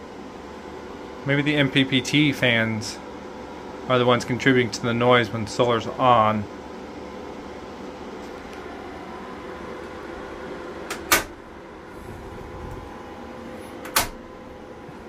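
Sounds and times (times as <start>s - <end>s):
inverter hum and cooling fans: 0.0s - 15.0s.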